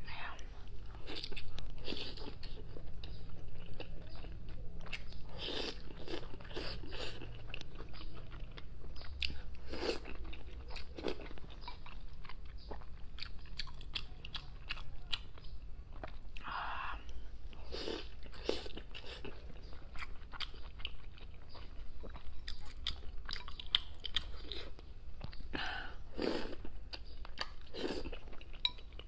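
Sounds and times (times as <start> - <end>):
wet chewing and smacking: 0.9 - 16.5, 17.1 - 25.5, 26.2 - 29.0.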